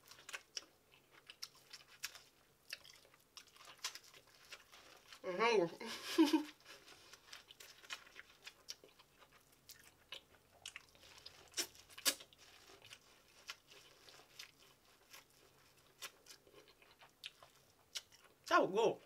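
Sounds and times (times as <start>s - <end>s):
chewing corn crunches: 0.0s - 5.2s, 6.5s - 18.5s.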